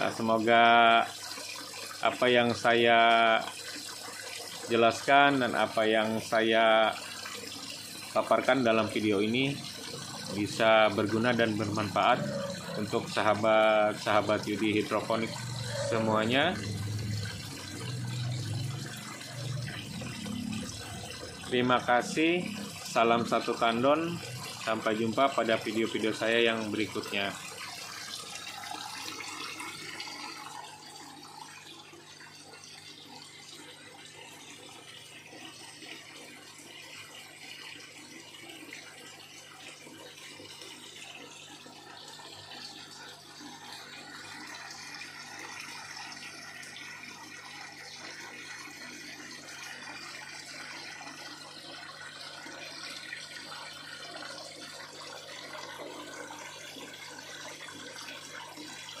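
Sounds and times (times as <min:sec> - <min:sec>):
water pouring into tank: 0:00.0 - 0:59.0.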